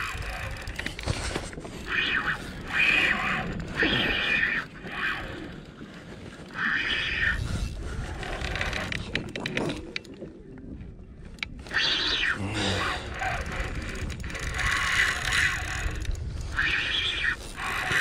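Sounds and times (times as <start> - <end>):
fishing reel whirring: 0.0 - 5.8, 6.5 - 9.8, 11.5 - 18.0.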